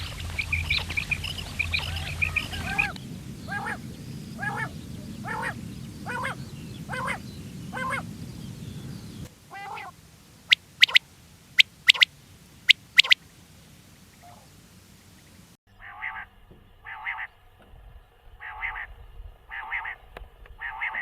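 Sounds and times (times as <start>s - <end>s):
quails calling: 0.0s - 16.3s, 16.9s - 17.3s, 18.4s - 18.9s, 19.5s - 20.0s, 20.6s - 21.0s.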